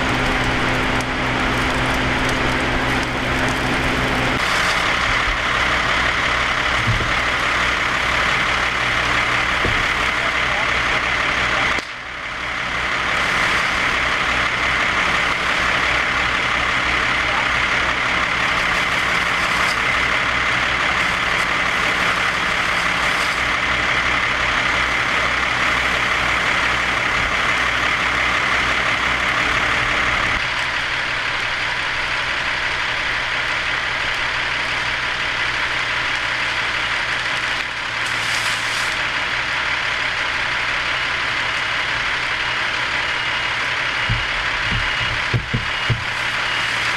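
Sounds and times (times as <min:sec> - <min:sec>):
heavy engine idling: 0:00.0 - 0:46.9
wildfire burning hiss: 0:00.0 - 0:46.9.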